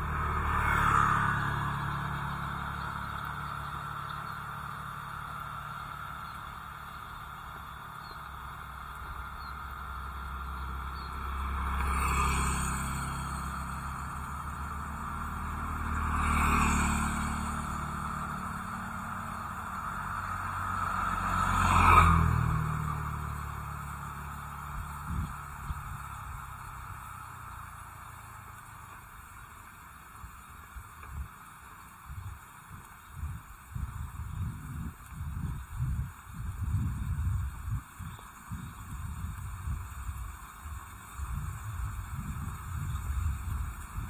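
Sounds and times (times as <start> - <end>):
low street rumble: 0.0 - 44.0
vehicles passing by: 0.0 - 44.0.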